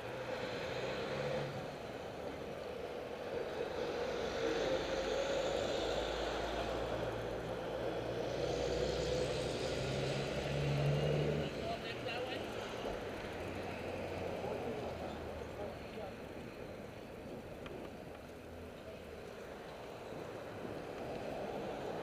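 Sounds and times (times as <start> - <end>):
cars and trucks driving past: 0.0 - 22.0.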